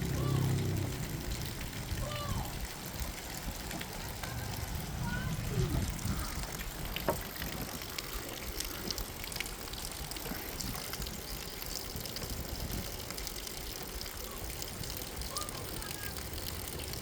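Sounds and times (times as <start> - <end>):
steady rain hiss: 0.0 - 17.0
wind rumbling on microphone: 0.0 - 17.0.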